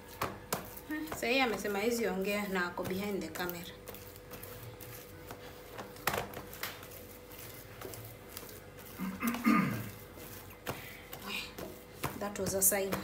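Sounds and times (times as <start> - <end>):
masher squishing potatoes: 0.0 - 13.0.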